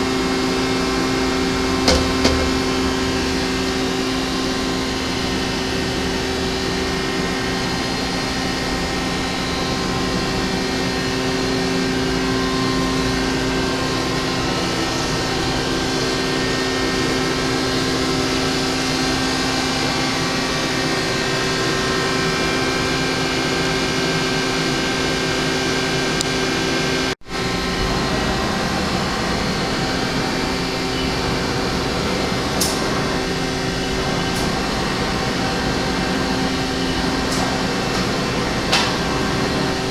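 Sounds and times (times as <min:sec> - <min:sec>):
machining equipment humming: 0:00.0 - 0:39.9.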